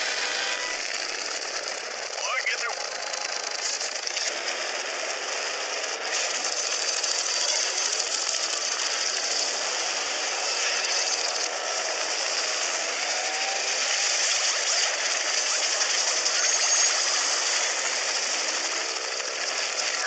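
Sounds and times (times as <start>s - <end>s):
rapid mechanical buzzing: 0.0s - 20.0s.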